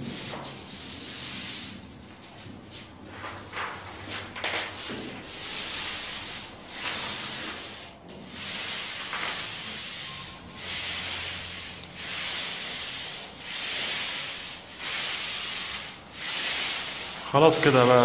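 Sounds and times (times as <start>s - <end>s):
paint roller swishing on wall: 0.0s - 18.0s.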